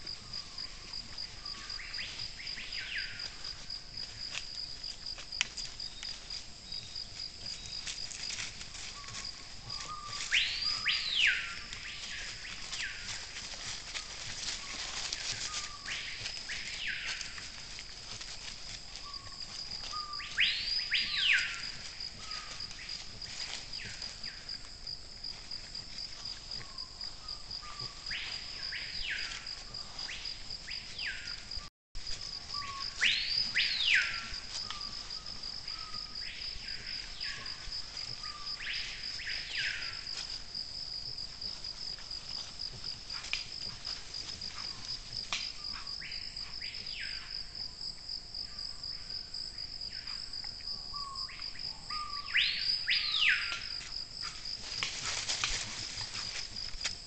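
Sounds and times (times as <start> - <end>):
pulsing insect trill: 0.0 - 57.0.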